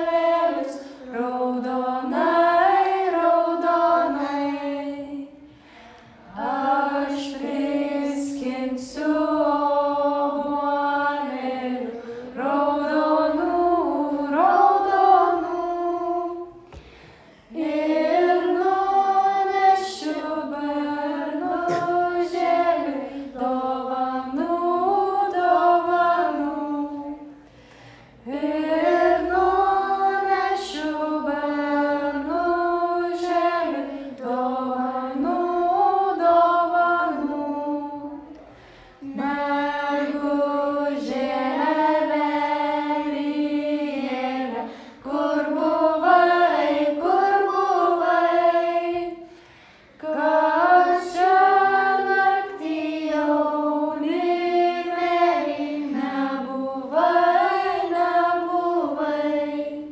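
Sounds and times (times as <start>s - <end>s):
children and women singing a folk song: 0.0s - 59.9s.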